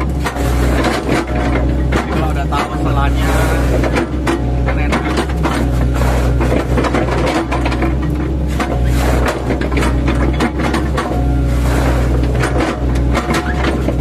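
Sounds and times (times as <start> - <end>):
excavator diesel engine: 0.0 - 14.0.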